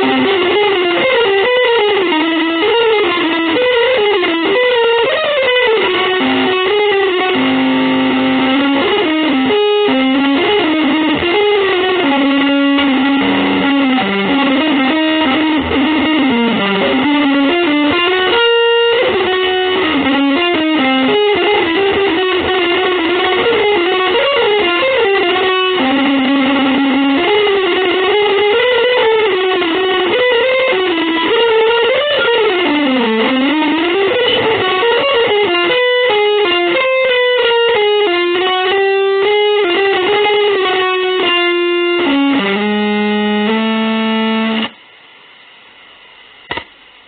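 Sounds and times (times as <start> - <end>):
electric guitar melody: 0.0 - 44.9.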